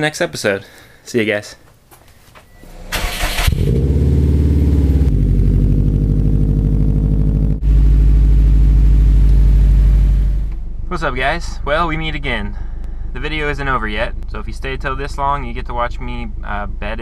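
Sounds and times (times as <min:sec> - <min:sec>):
car engine starting and rumbling: 0:02.5 - 0:17.0.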